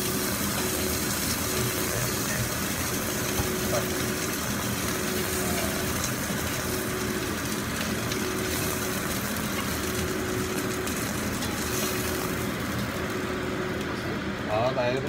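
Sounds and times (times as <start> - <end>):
meat sizzling in a frying pan: 0.0 - 13.5
mechanical hum: 0.0 - 15.0.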